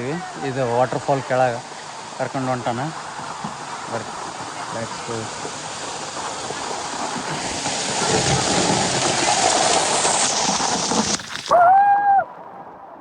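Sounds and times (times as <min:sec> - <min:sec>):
waterfall pouring onto boat: 0:00.0 - 0:12.2.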